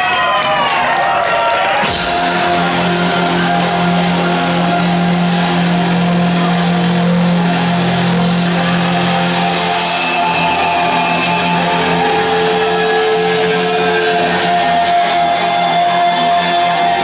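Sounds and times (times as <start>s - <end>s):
held high synth notes: 1.8s - 17.0s
low synth drone: 1.8s - 17.0s.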